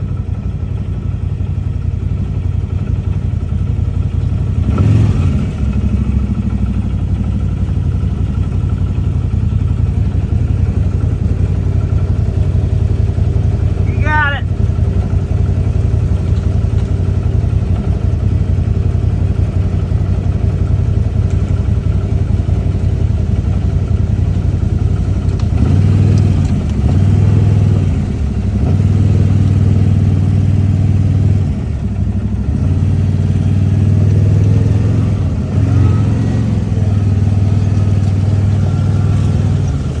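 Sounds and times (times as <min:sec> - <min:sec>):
utility vehicle engine running: 0:00.0 - 0:40.0.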